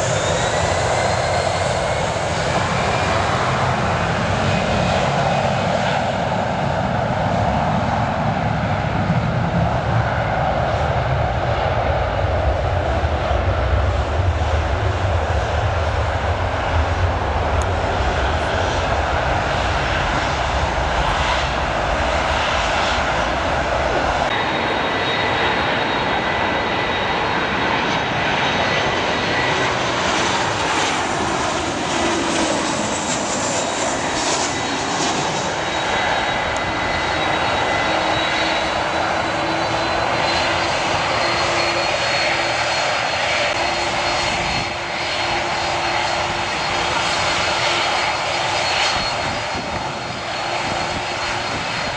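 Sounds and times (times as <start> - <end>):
jet engines roaring with whine: 0.0 - 51.9
jet engines rumbling: 0.0 - 51.9.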